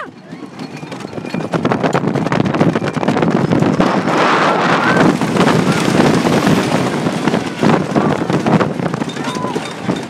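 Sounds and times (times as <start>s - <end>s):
roller coaster rumbling clatter: 0.0s - 10.0s
wind on microphone: 0.0s - 10.0s.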